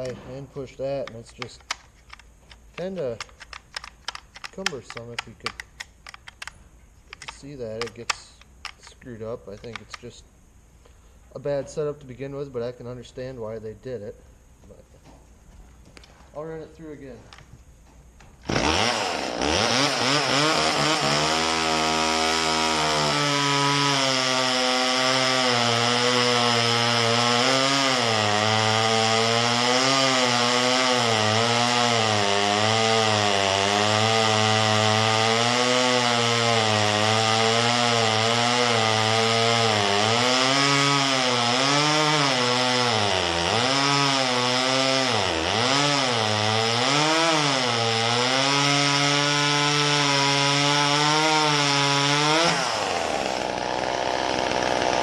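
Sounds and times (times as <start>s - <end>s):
chainsaw cutting wood: 0.0s - 10.2s, 18.4s - 55.0s.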